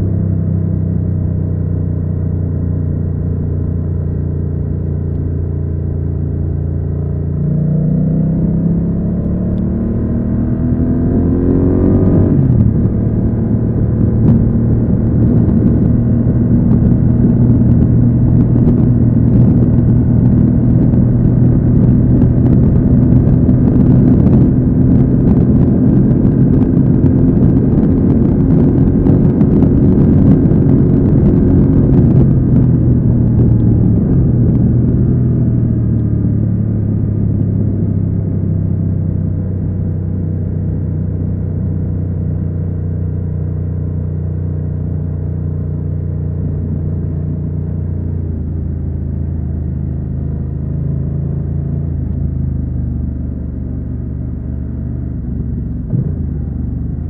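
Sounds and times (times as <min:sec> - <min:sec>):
motorcycle engine accelerating: 0:00.0 - 0:57.0
wind and road noise: 0:00.0 - 0:57.0.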